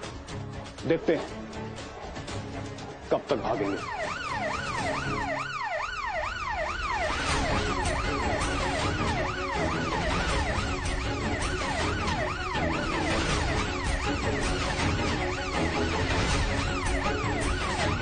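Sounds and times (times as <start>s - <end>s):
background music: 0.0s - 18.0s
police siren wailing: 3.3s - 18.0s.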